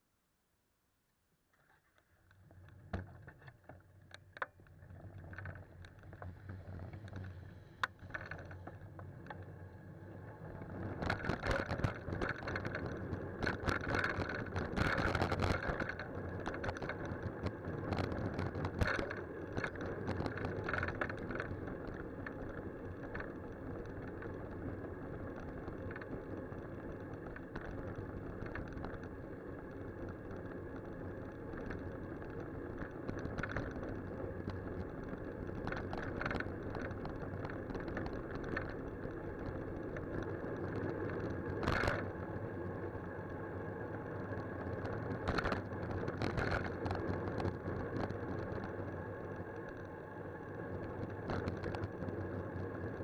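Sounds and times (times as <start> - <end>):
wind and road noise: 2.3 - 53.0.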